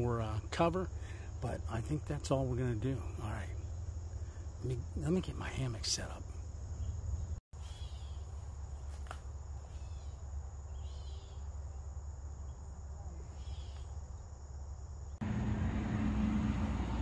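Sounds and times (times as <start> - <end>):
insects chirping: 0.0 - 15.3.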